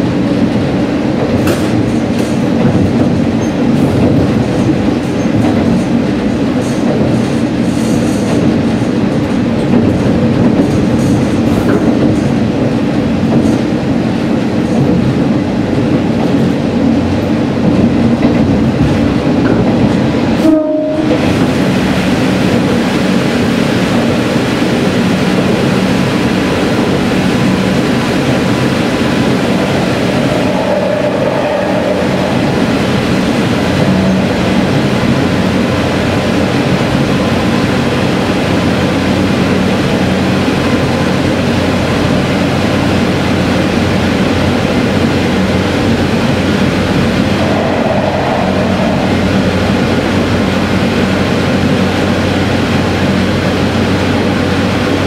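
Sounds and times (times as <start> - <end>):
diesel railcar engine drone: 0.0 - 55.0
wheel and rail rumble: 0.0 - 55.0.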